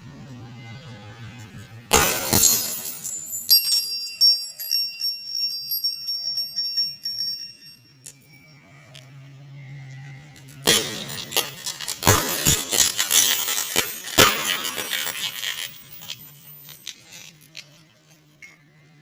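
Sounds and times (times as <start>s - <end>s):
jingling bell-like tones: 1.9s - 18.6s.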